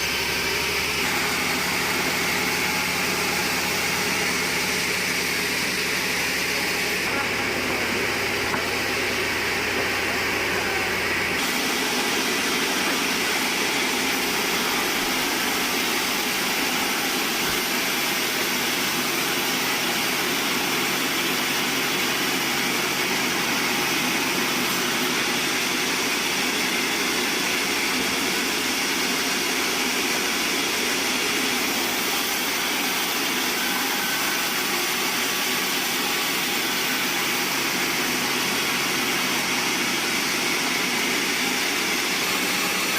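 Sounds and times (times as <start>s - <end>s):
band saw running: 0.0s - 42.9s.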